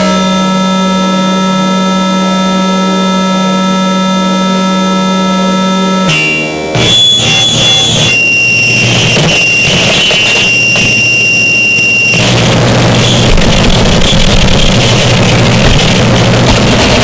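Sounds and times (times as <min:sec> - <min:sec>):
harsh distorted noise music: 0:00.0 - 0:17.0
high whine: 0:00.0 - 0:17.0
low hum: 0:00.0 - 0:17.0.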